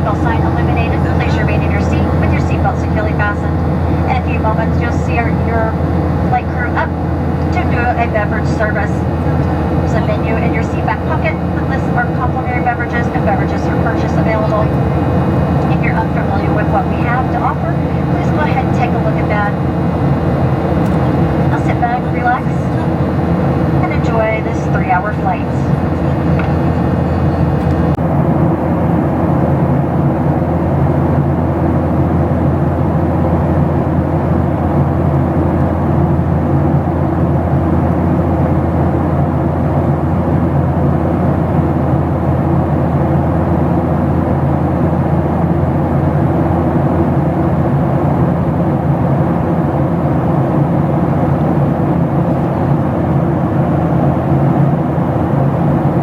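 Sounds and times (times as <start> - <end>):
airliner cabin engine rush: 0.0 - 56.0.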